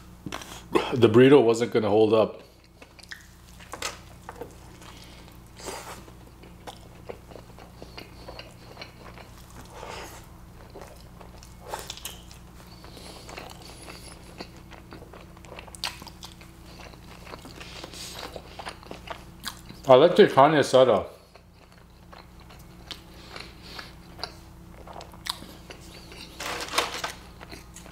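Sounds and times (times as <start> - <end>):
biting and wet chewing: 2.4 - 20.0, 21.2 - 27.9.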